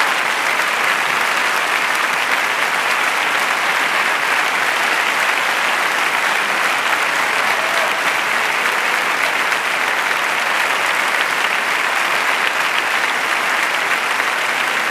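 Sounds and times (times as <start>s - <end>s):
large audience applauding: 0.0s - 14.9s.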